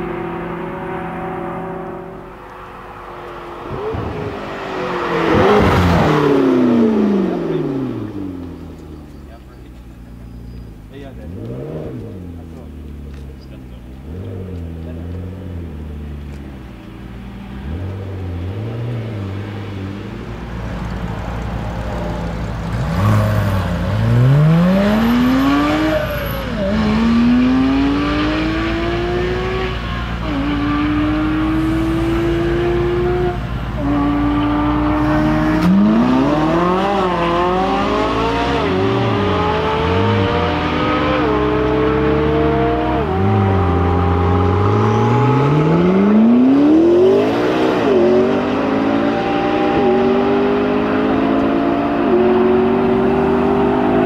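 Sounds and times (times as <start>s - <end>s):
sports car engine revving and accelerating: 0.0s - 10.3s, 11.0s - 20.0s, 21.9s - 54.0s.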